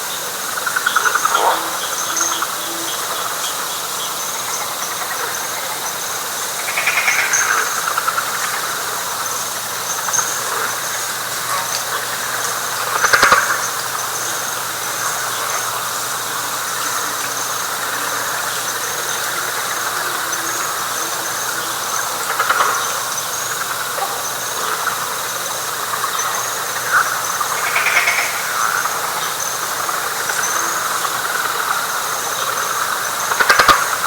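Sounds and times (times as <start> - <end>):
frogs and insects droning: 0.0 - 34.0
high insect chirping: 0.0 - 34.0
louder single frog calls: 0.5 - 6.0, 6.6 - 34.0.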